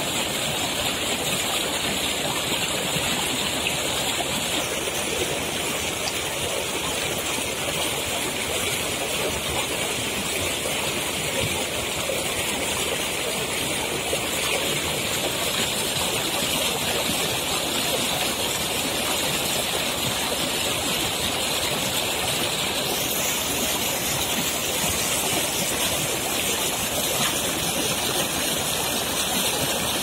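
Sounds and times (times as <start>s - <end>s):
water gushing into channel: 0.0s - 30.0s.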